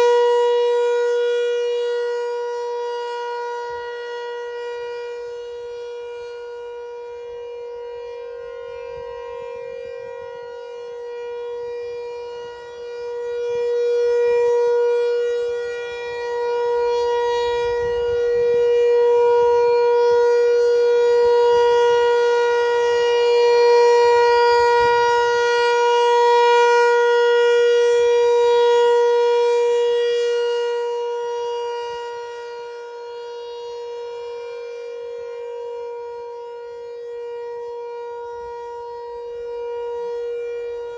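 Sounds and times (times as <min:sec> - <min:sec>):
rotating warning siren steady tone: 0:00.0 - 0:40.9.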